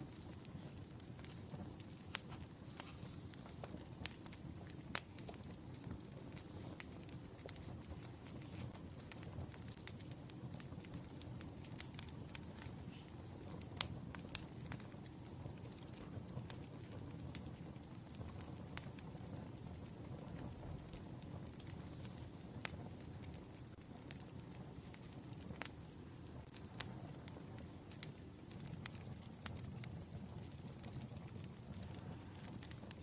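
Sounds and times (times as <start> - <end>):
fire popping and snapping: 0.0 - 33.0
firewood crackling: 0.0 - 33.0
low rumble of flames: 0.0 - 33.0.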